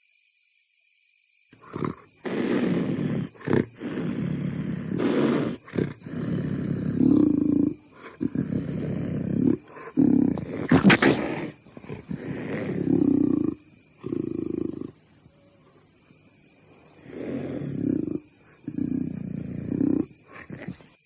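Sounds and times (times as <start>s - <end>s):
animal growls and snarls: 1.6s - 15.0s, 16.8s - 21.0s.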